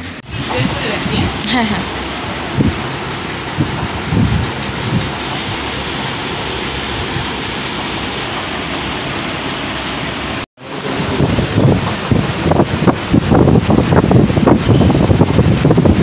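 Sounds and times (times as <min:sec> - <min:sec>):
electric fans rushing air: 0:00.0 - 0:16.0.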